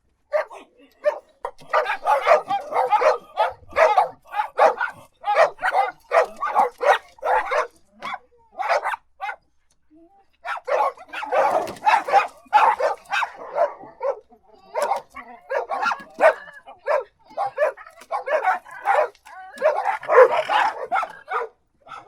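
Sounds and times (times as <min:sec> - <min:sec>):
dog barking: 0:00.3 - 0:09.4, 0:10.4 - 0:22.0.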